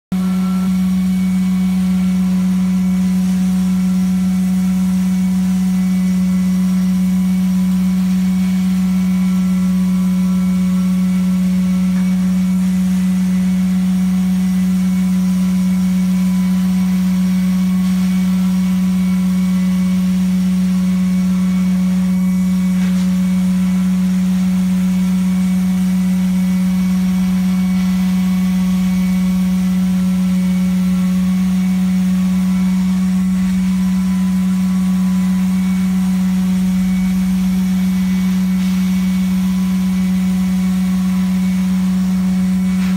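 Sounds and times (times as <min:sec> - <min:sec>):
carpet cleaning machine hum: 0:00.1 - 0:42.9.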